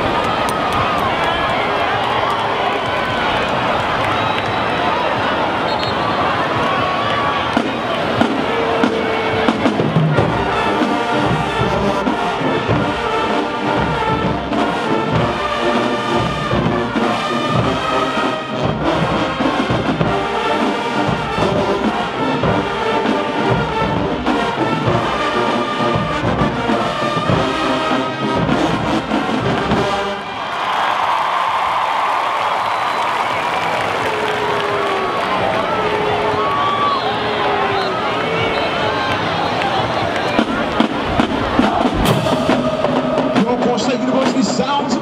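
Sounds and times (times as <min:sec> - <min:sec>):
crowd cheering: 0:00.0 - 0:45.0
marching band playing: 0:00.0 - 0:45.0.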